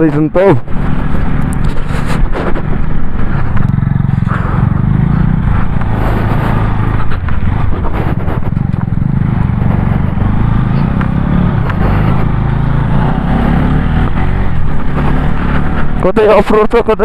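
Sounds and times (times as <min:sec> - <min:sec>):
motorcycle engine running: 0:00.0 - 0:17.0
scraping and knocking road noise: 0:00.0 - 0:17.0.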